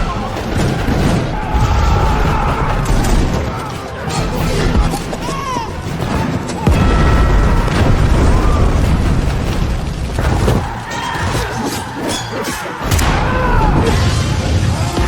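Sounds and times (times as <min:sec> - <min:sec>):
booms: 0:00.0 - 0:11.6, 0:12.8 - 0:15.0
action soundtrack music: 0:00.0 - 0:15.0
crashing shattering impacts: 0:00.0 - 0:15.0.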